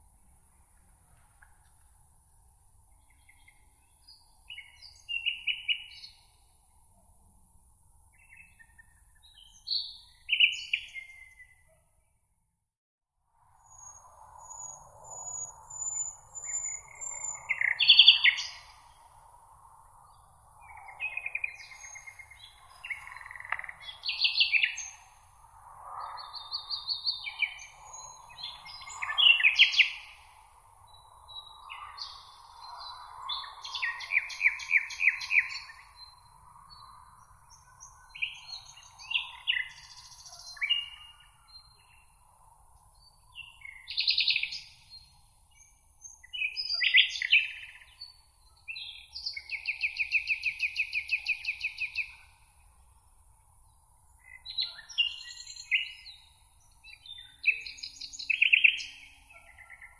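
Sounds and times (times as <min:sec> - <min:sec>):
songbirds chirping and trilling: 0:02.8 - 0:06.9, 0:07.7 - 0:12.1, 0:13.6 - 0:59.9.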